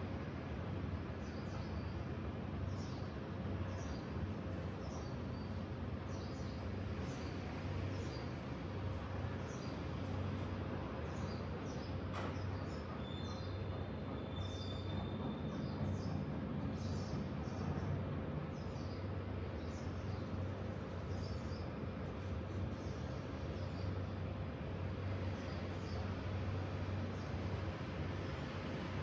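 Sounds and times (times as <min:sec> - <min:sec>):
small birds chirping: 0:01.2 - 0:04.2, 0:04.8 - 0:28.6.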